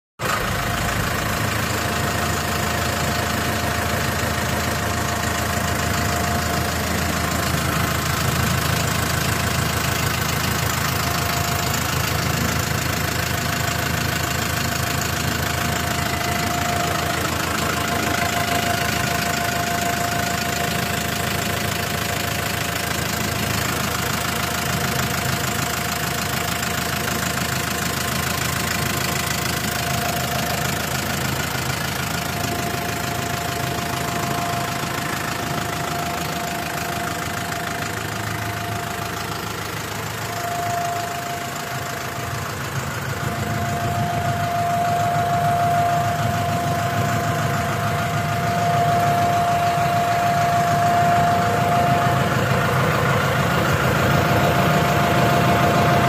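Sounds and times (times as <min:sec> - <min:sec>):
tractor diesel engine idling: 0:00.2 - 0:56.0.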